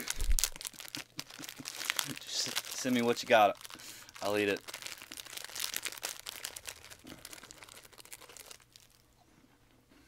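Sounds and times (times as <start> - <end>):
snack packaging crinkling: 0.0 - 9.1.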